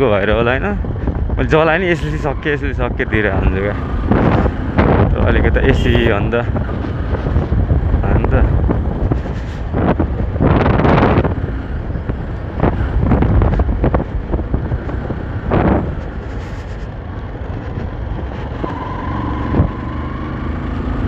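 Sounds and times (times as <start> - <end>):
motorcycle engine and road rumble: 0.0 - 21.0
wind buffeting microphone: 0.0 - 21.0.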